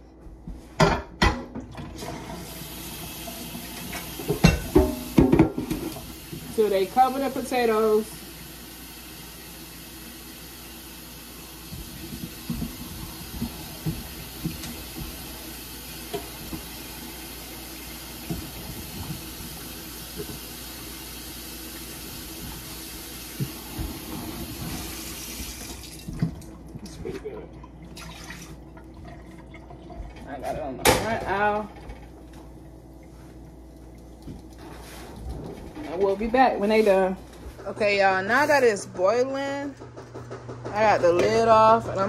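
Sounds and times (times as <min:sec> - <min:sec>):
tap water filling a pot: 0:01.2 - 0:37.1.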